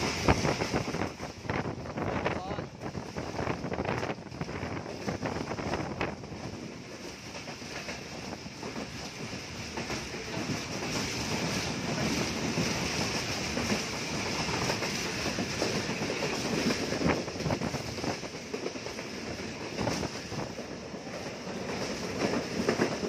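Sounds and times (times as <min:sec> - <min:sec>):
train wheels clickety-clack: 0:00.0 - 0:23.0.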